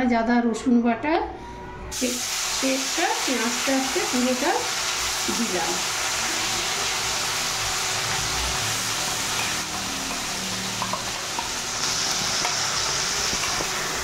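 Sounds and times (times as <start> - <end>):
hot oil sizzling: 1.9 - 14.0.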